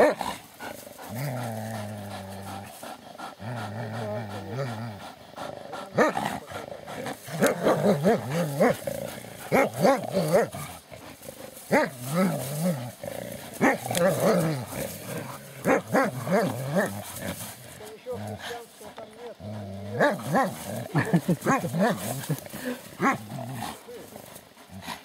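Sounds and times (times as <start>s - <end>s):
dogs growling in play: 0.0s - 25.0s.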